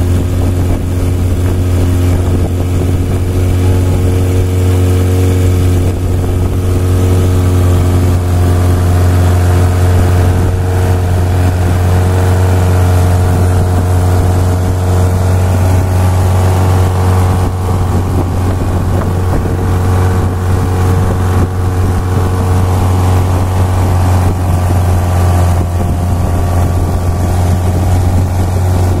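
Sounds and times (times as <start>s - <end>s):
boat engine droning: 0.0s - 29.0s
water rushing along hull: 0.0s - 29.0s.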